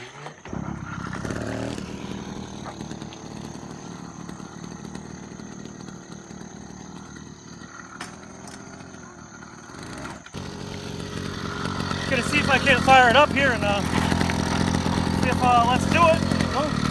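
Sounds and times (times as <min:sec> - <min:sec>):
small motorbike engine revving: 0:00.0 - 0:16.9.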